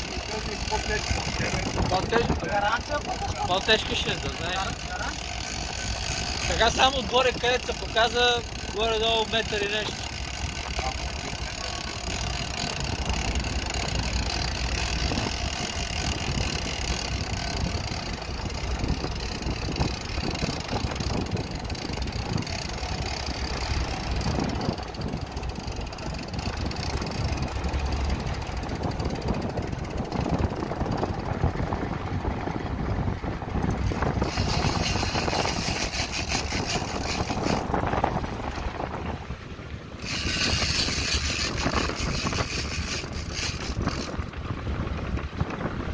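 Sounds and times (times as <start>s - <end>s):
boat engine running: 0.0s - 45.9s
wind: 0.0s - 45.9s.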